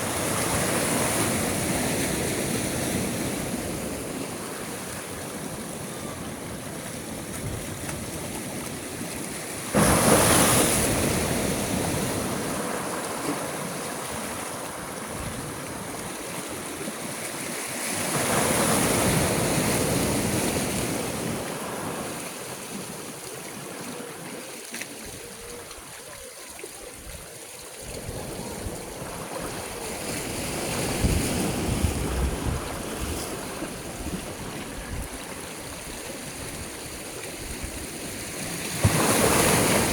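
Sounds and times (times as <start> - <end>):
sea waves crashing: 0.0 - 24.6, 27.8 - 39.9.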